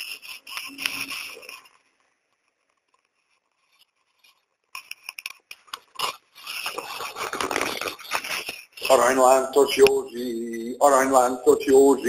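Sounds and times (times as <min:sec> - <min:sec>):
crackling clicking noise: 0:00.0 - 0:10.3.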